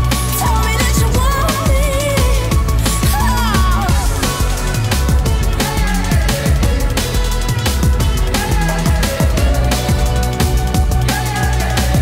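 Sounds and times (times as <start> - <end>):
drum and bass music: 0.0 - 12.0.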